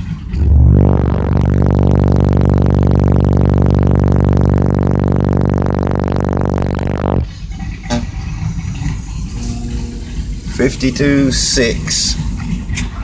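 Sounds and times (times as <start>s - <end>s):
subwoofer low buzzy drone: 0.0s - 13.0s.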